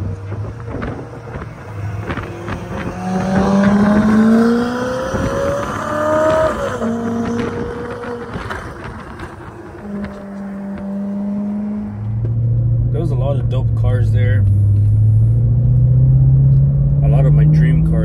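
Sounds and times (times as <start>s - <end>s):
road noise: 0.0s - 18.0s
sports car engine accelerating: 0.0s - 18.0s.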